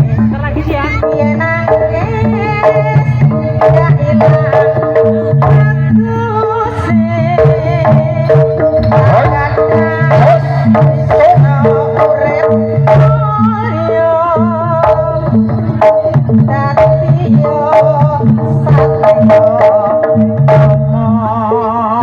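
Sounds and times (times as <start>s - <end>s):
hand drums beating: 0.0s - 21.2s.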